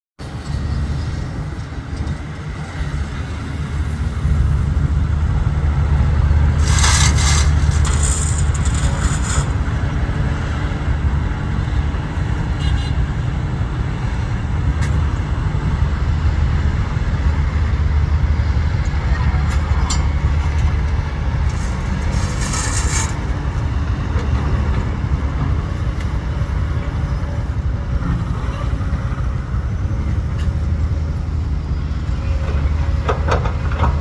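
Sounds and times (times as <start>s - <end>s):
heavy diesel machinery rumbling: 0.2s - 34.0s.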